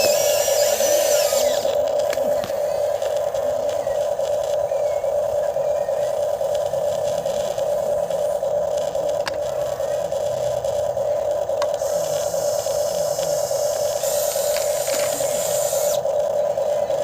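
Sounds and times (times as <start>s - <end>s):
toy excavator motor running: 0.0s - 17.0s.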